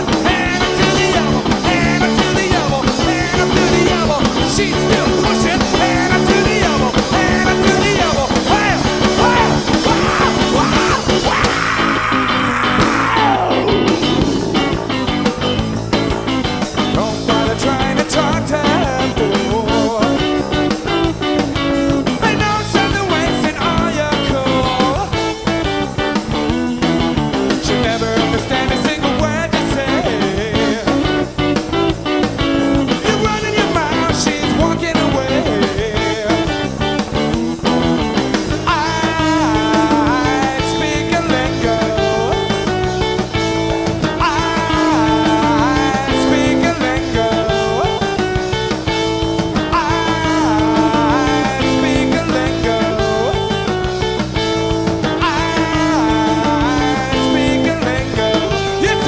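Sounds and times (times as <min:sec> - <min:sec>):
drum beat: 0:00.0 - 0:59.0
electric guitars: 0:00.0 - 0:59.0.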